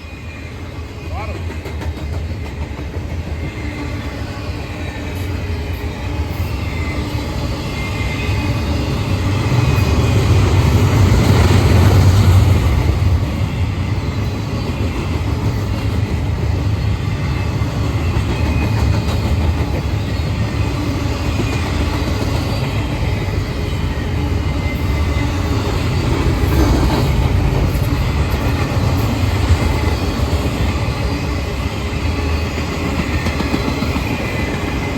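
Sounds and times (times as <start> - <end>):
freight train wheels rumbling: 0.0 - 34.9.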